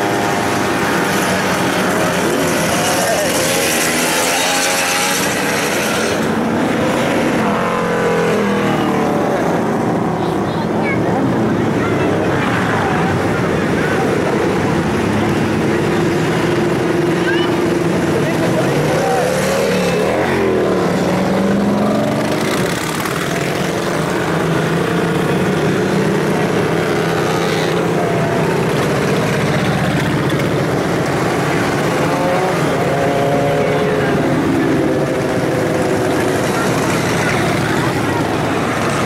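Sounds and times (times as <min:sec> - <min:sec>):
motorcycles riding past: 0:00.0 - 0:39.0.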